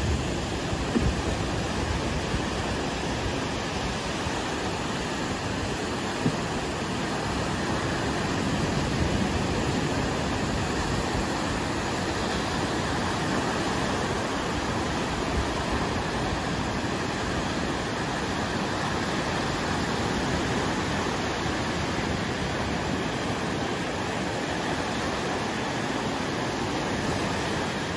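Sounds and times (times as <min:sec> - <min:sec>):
waves washing onto beach: 0:00.0 - 0:27.9.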